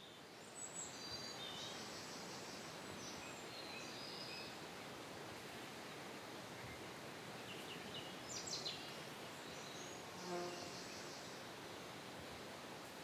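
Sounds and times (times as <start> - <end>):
faint outdoor background hiss: 0.0 - 13.0.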